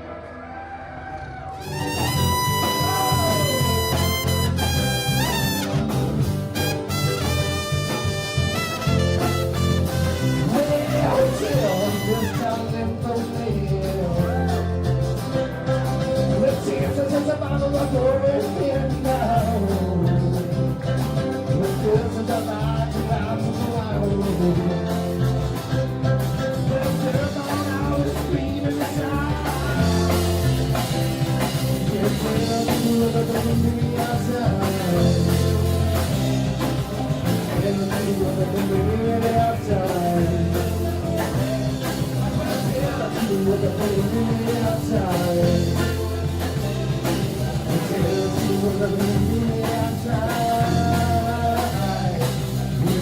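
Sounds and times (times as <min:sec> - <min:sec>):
rock band playing: 0:01.0 - 0:53.0
person singing: 0:01.6 - 0:05.8, 0:08.4 - 0:53.0.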